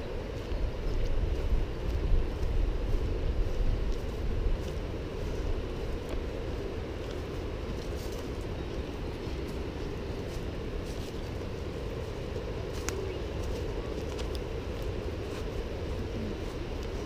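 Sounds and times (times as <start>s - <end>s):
low rumbling of walking camera: 0.0s - 17.0s.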